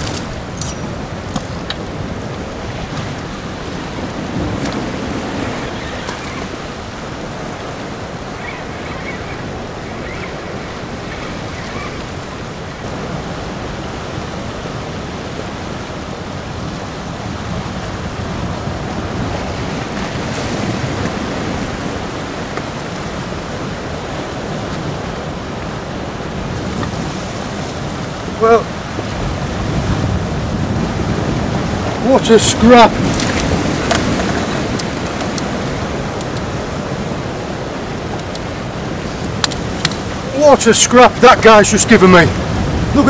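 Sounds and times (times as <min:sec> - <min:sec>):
surf washing on rocks: 0:00.0 - 0:43.0
wind buffeting microphone: 0:00.0 - 0:43.0.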